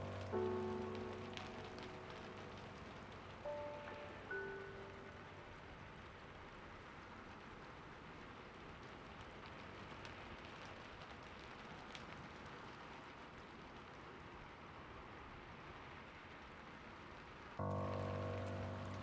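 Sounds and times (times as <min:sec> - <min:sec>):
soft rainfall: 0:00.0 - 0:19.0.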